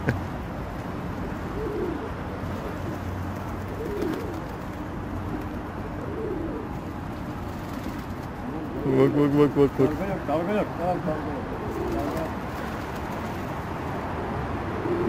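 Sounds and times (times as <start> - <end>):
pigeons cooing: 1.1 - 13.4, 14.6 - 15.0.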